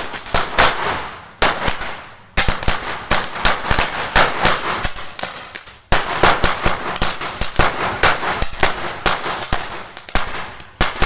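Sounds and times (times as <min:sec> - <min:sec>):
firecracker string popping: 0:00.0 - 0:11.0.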